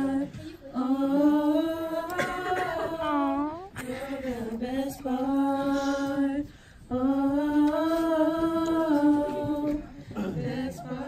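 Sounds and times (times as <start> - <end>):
women humming a cappella: 0.0 - 11.0.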